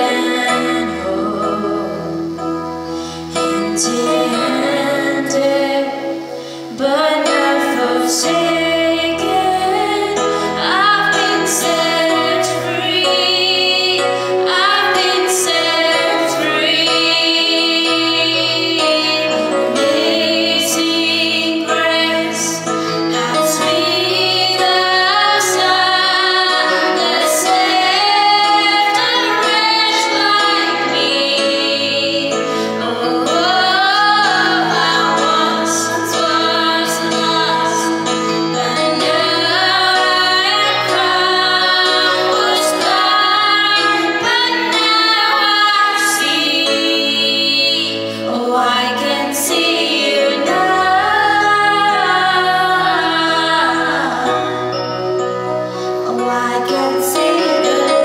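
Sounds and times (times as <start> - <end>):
instrumental accompaniment: 0.0 - 58.0
women singing worship song: 0.0 - 58.0.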